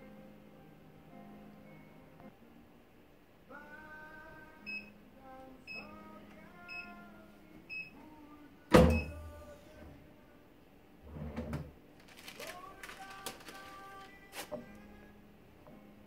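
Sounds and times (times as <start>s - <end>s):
faint background music: 0.0s - 16.0s.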